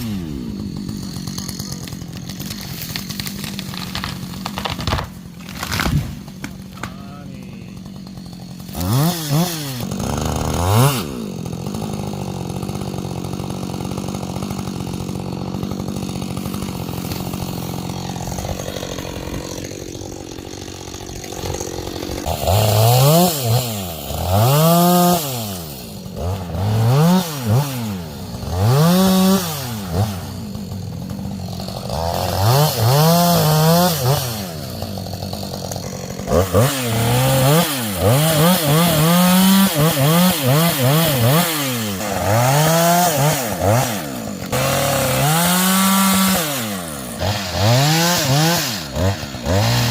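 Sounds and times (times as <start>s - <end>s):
chainsaw revving and idling: 0.0s - 49.9s.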